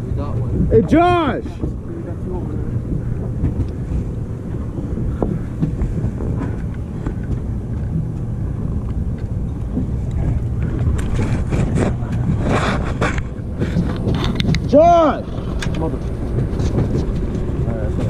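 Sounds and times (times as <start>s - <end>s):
boat engine rumbling: 0.0s - 18.0s
wind on microphone: 0.0s - 18.0s.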